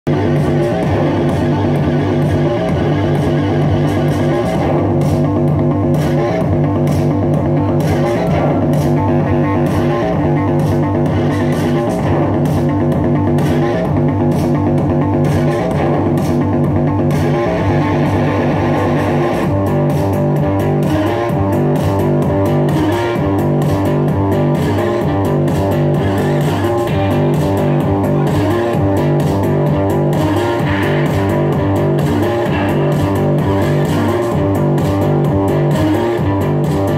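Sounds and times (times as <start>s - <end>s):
bass guitar: 0.0s - 36.9s
steady drum beat: 0.1s - 36.9s.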